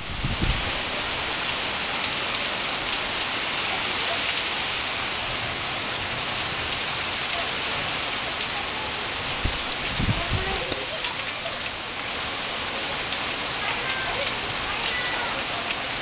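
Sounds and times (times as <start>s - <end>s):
steady rain shower: 0.0s - 16.0s.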